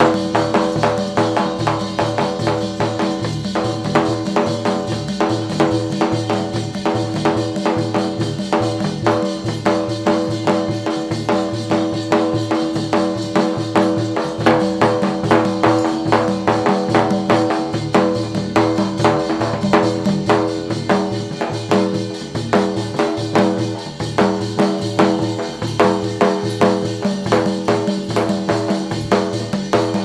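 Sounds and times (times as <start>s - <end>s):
fast drum beat: 0.0s - 30.0s.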